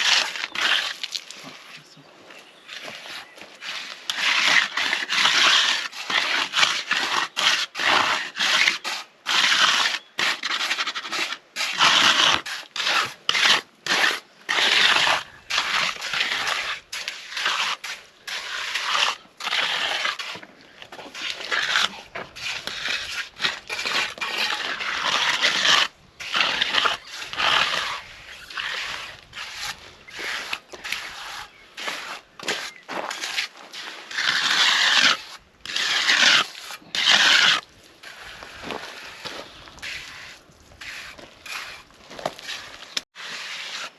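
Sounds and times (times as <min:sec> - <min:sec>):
scraping and crunching of gritty material: 0:00.0 - 0:43.9.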